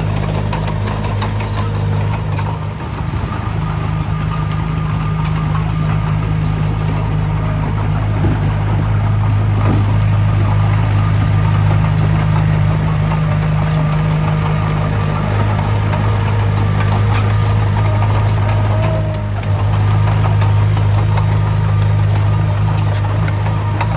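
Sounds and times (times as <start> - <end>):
diesel engine running: 0.0 - 23.9
light clicks and clanks: 0.0 - 23.9.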